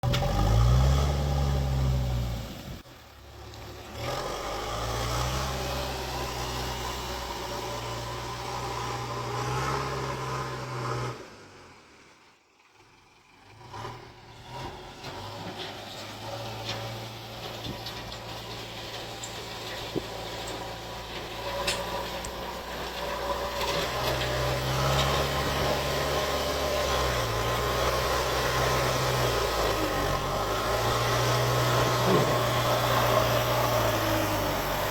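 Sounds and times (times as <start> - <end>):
backhoe diesel engine working: 0.0 - 34.9.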